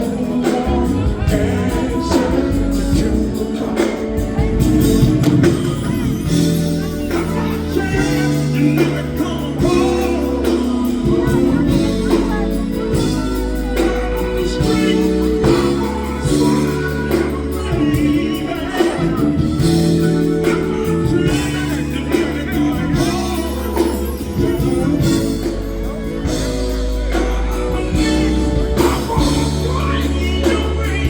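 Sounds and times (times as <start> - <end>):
bass line: 0.0 - 31.0
funk band playing groove: 0.0 - 31.0
person singing: 0.0 - 31.0.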